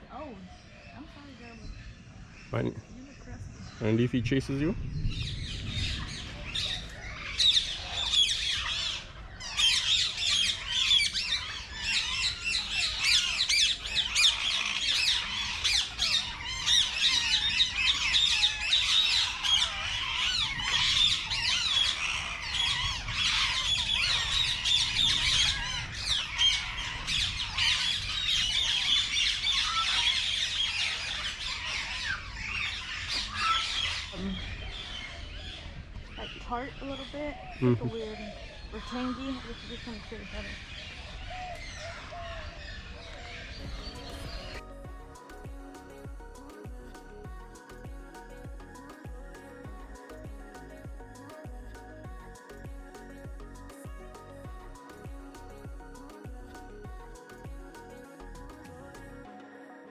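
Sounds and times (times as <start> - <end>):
birds squawking and chattering: 0.0 - 59.4.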